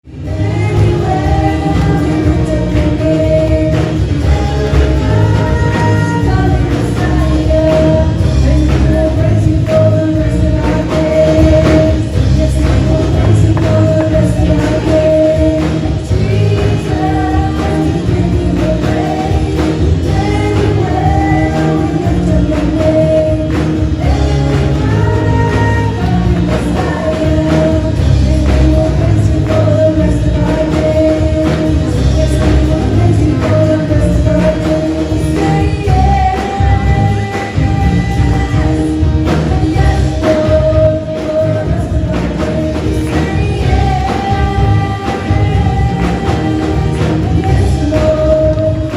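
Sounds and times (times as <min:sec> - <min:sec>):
band with percussion: 0:00.0 - 0:48.9
voices singing: 0:00.1 - 0:48.9.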